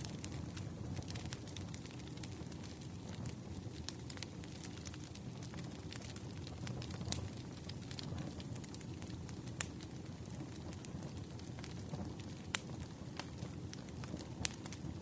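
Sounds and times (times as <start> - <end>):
sharp pops of fire: 0.0 - 15.0
wood fire crackling: 0.0 - 15.0.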